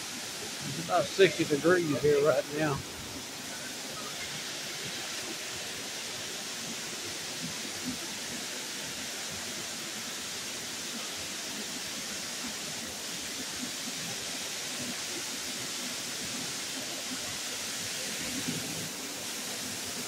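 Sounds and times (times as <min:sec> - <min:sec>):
waterfall pouring onto rocks: 0:00.0 - 0:20.0.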